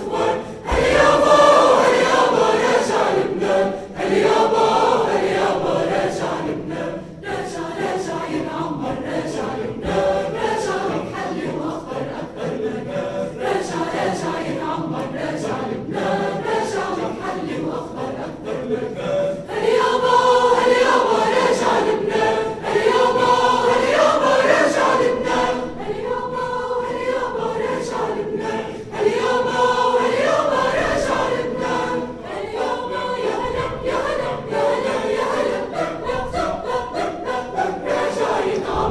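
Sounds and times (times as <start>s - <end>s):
choir singing in harmony: 0.0s - 38.9s.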